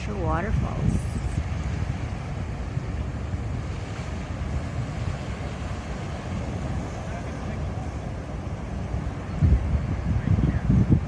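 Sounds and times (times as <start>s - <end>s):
ocean surf over rocks: 0.0s - 11.0s
wind rumbling on microphone: 0.0s - 11.0s.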